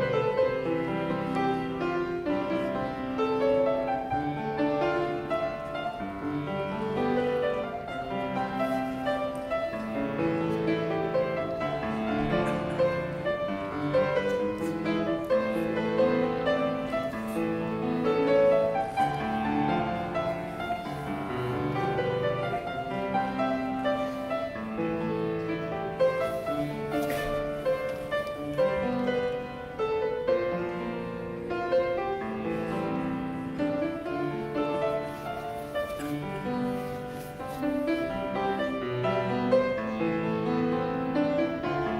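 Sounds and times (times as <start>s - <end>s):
classical piano piece: 0.0s - 41.9s.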